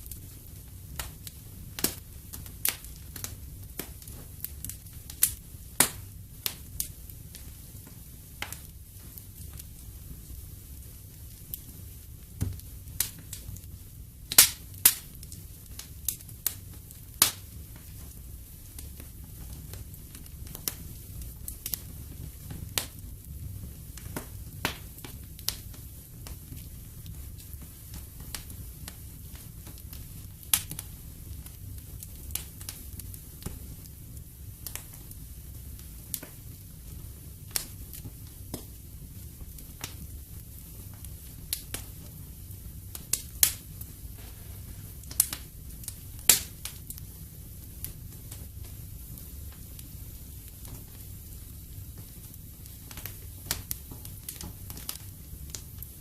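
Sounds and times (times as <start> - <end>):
fire popping: 0.0 - 56.0
low rumble of flames: 0.0 - 56.0
wood fire crackling: 0.0 - 56.0.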